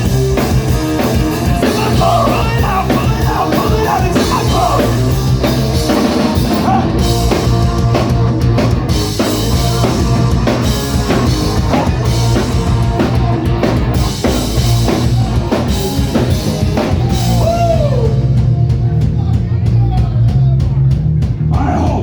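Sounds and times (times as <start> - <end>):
driving drum kit: 0.0 - 22.0
low bass line: 0.0 - 22.0
rock band playing instrumental: 0.0 - 22.0.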